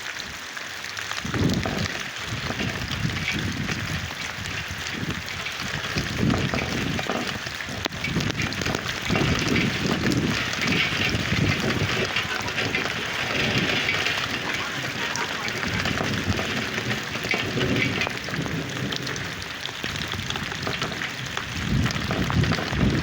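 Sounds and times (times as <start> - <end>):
raindrops ticking: 0.0 - 23.0
steady rain falling: 0.0 - 23.0.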